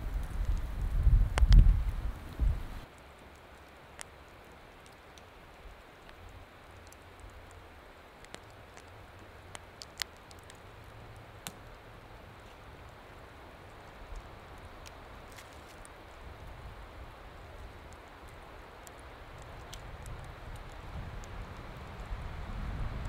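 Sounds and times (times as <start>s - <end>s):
soft hiss: 0.0s - 23.0s.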